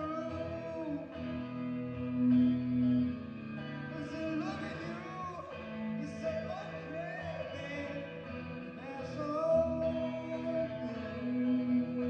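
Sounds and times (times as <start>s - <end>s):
man singing: 0.0s - 2.4s, 3.8s - 12.0s
electric guitar chords: 0.0s - 12.0s.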